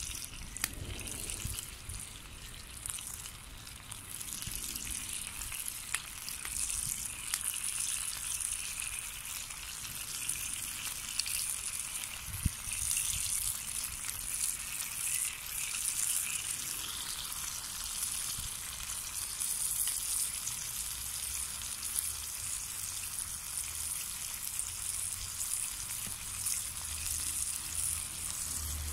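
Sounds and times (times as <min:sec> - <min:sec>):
log fire hissing and crackling: 0:00.0 - 0:28.9.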